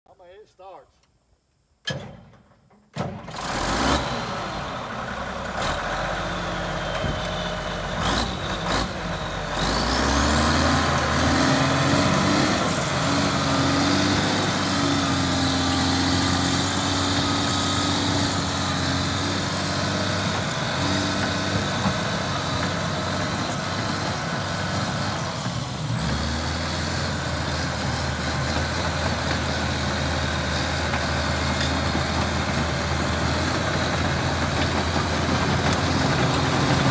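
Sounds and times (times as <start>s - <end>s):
bulldozer diesel engine running: 3.2s - 36.9s
high engine whine: 3.2s - 36.9s.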